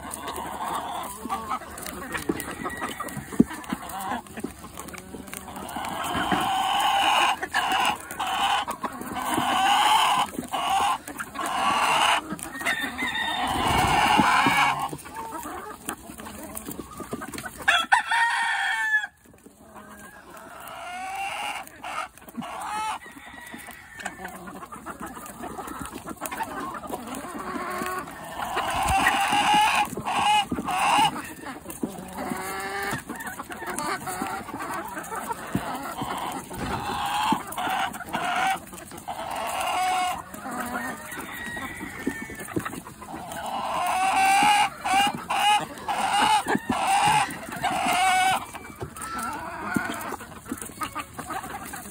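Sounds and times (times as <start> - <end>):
chickens clucking and squawking: 0.0 - 51.9.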